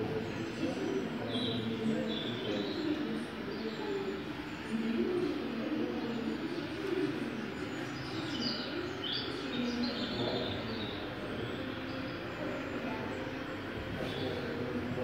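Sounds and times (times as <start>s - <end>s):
indistinct low murmur: 0.0s - 15.0s.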